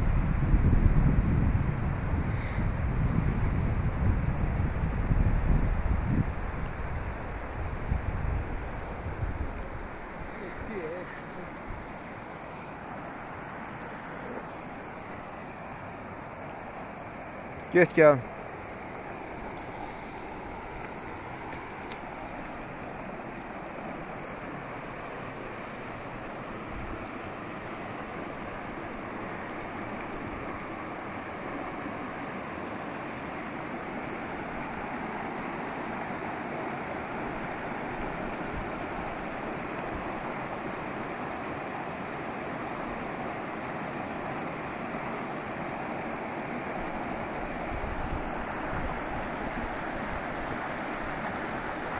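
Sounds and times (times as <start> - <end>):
river rushing over rocks: 6.2 - 51.9.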